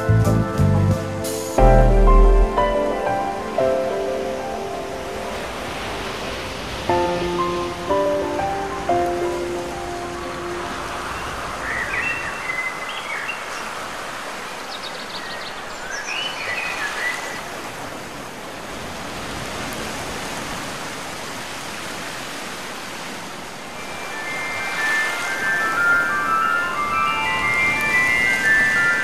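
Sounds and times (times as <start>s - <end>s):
rushing noise by open water: 0.0s - 29.0s.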